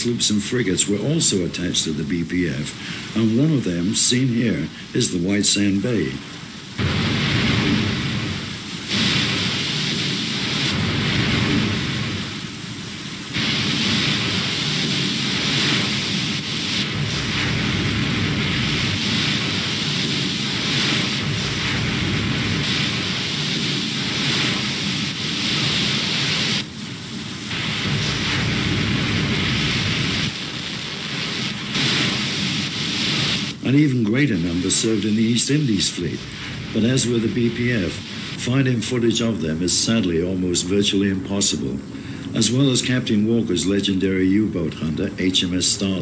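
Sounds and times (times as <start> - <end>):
steady rushing noise: 0.0 - 46.0.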